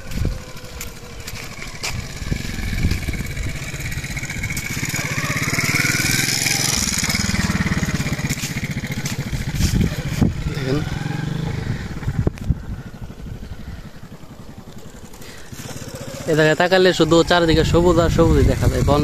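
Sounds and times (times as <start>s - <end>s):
small vehicle engine running: 0.0s - 19.0s.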